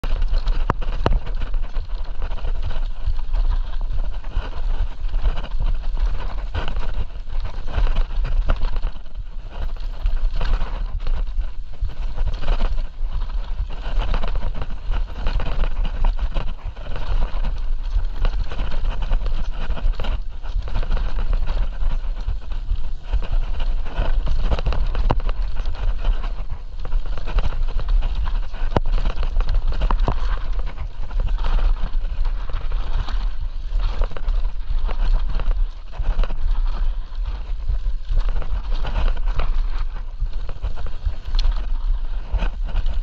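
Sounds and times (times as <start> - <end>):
bike rattles and knocks: 0.0 - 43.0
wind rumbling on microphone: 0.0 - 43.0.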